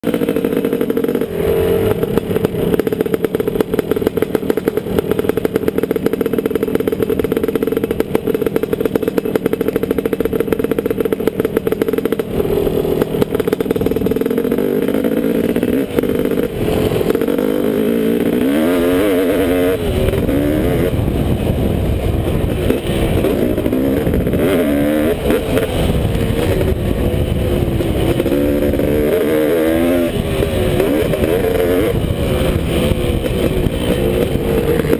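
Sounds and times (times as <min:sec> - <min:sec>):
motocross engine revving: 0:00.0 - 0:34.9.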